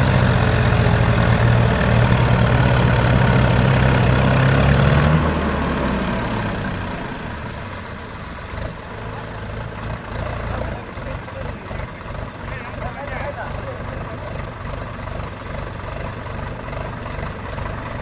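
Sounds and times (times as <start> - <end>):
diesel tractor engines: 0.0 - 18.0.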